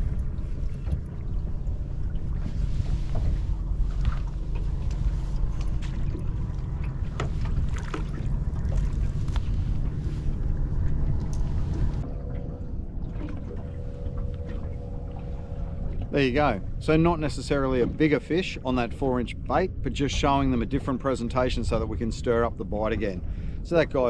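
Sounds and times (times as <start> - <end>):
water around boat: 0.0 - 24.0
wind rumbling on microphone: 0.0 - 24.0.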